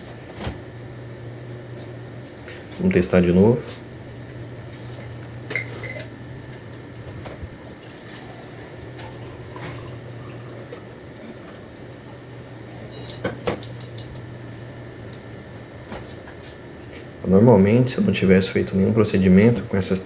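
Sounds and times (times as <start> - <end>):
computer fan humming: 0.0 - 20.0.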